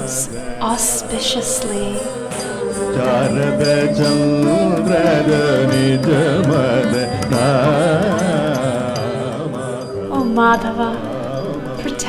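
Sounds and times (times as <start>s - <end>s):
ornamented melody over drone: 0.0s - 12.0s.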